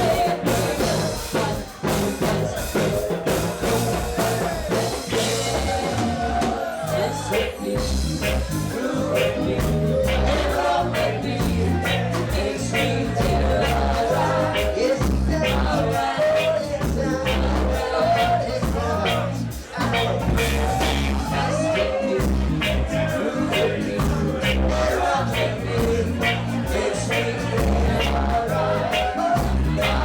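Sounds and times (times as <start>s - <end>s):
heavy bass line: 0.0s - 30.0s
reggae band playing: 0.0s - 30.0s
steady drum beat: 0.0s - 30.0s.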